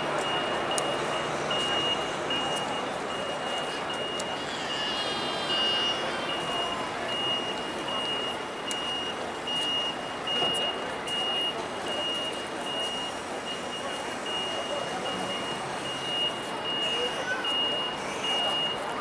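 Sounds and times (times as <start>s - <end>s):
crowd chatter: 0.0s - 19.0s
reversing alarm beeping: 0.0s - 19.0s
street noise: 0.0s - 19.0s.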